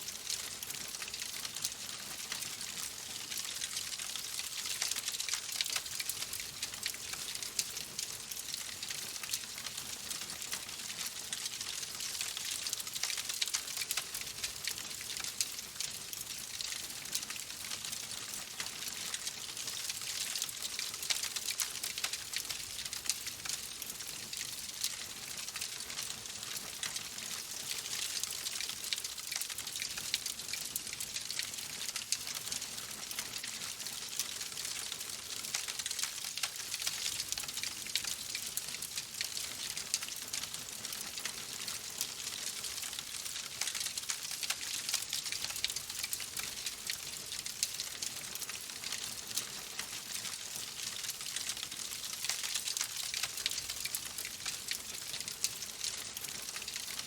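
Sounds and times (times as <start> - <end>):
wood fire crackling: 0.1 - 57.0.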